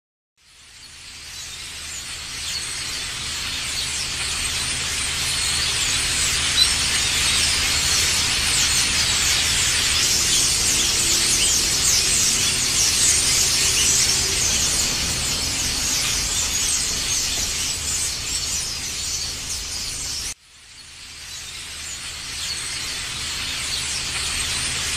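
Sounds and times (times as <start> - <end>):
flock of birds chattering: 0.6 - 24.9.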